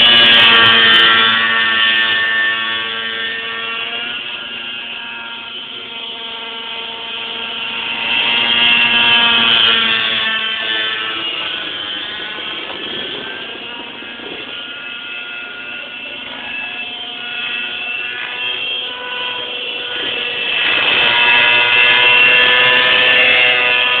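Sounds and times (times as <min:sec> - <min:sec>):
model helicopter whine: 0:00.0 - 0:24.0.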